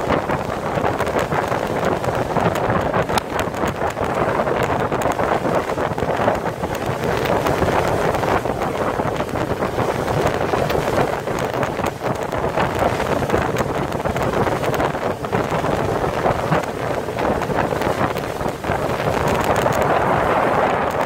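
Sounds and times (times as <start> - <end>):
motorboat running noise: 0.0 - 21.0
wind buffeting microphone: 0.0 - 21.0.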